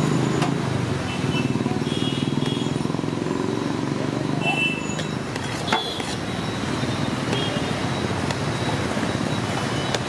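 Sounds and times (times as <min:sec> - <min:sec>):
road traffic: 0:00.0 - 0:10.0.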